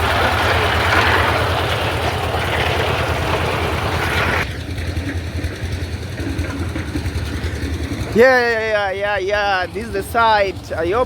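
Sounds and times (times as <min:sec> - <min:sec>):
harsh machine noise: 0:00.0 - 0:11.0
low engine hum: 0:00.0 - 0:11.0.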